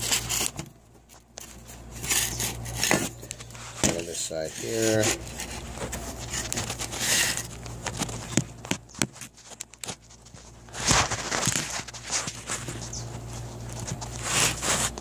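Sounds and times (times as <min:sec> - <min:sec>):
rustling scrapes: 0:00.0 - 0:15.0.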